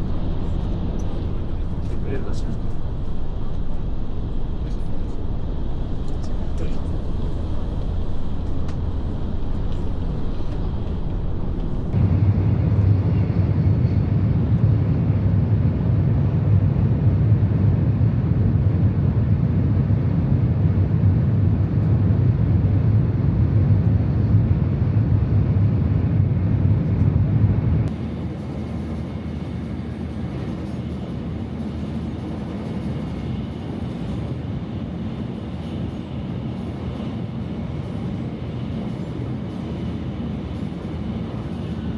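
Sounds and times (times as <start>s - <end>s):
train running rumble from inside: 0.0s - 41.9s.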